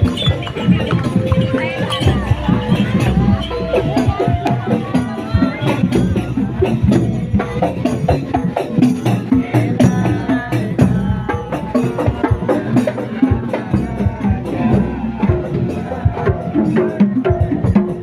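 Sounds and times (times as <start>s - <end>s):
fast drum and metal percussion: 0.0s - 18.0s.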